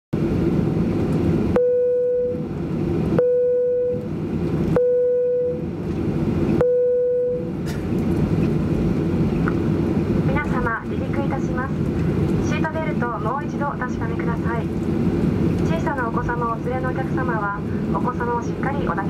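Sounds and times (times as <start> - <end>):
airplane cabin and engine noise: 0.2 - 19.0.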